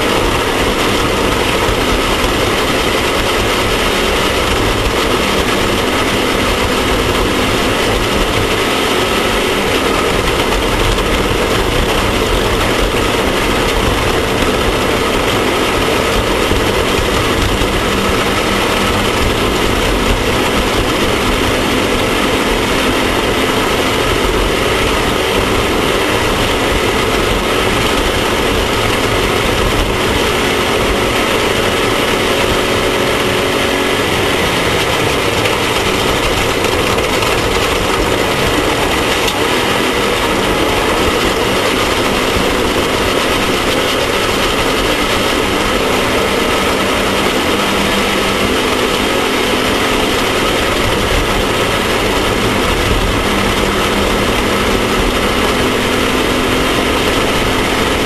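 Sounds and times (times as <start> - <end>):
dense rushing noise: 0.0 - 58.0
off-road vehicle engine running: 0.0 - 58.0.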